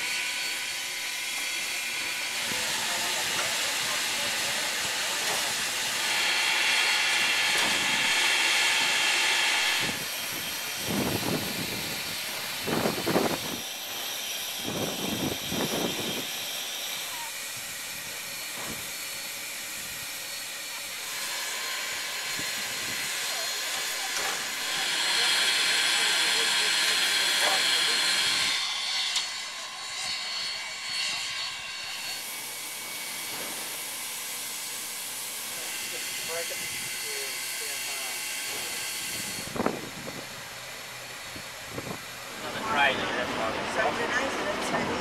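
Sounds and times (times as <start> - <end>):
steam locomotive hissing: 0.0 - 45.0.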